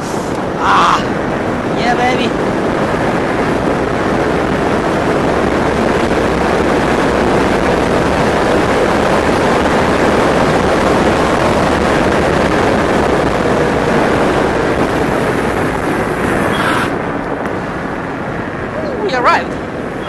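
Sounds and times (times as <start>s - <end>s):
road noise: 0.0s - 20.0s
wind rushing: 0.0s - 20.0s.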